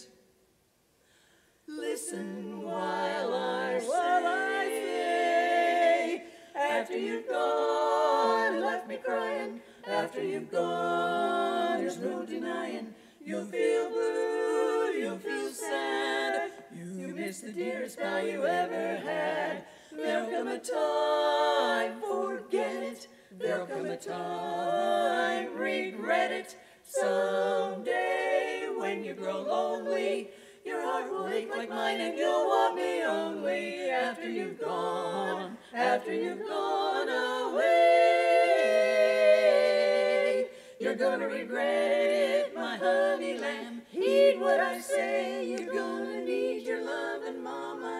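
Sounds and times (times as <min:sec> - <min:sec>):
women singing in harmony: 0:00.0 - 0:00.2, 0:01.6 - 0:47.9.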